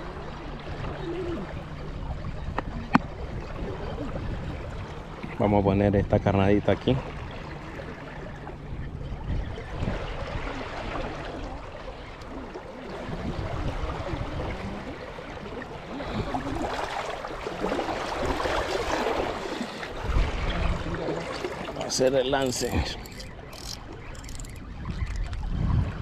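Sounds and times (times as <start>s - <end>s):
sea water lapping on shore: 0.0s - 26.0s.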